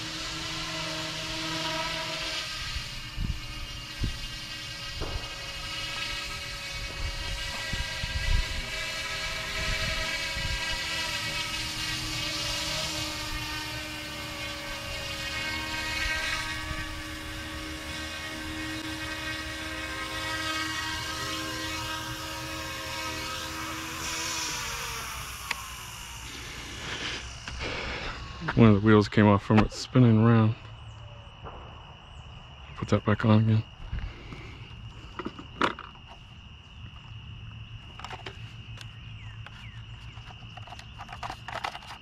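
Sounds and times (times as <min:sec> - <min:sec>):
rc helicopter rotor whine: 0:00.0 - 0:32.2, 0:33.1 - 0:42.0.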